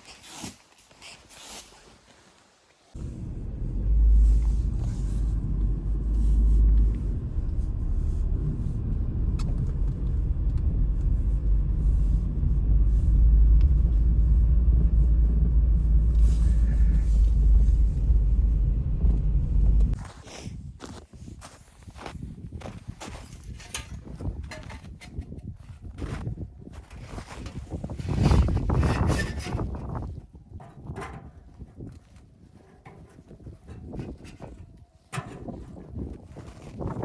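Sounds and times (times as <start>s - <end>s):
wind buffeting microphone: 3.0s - 37.0s.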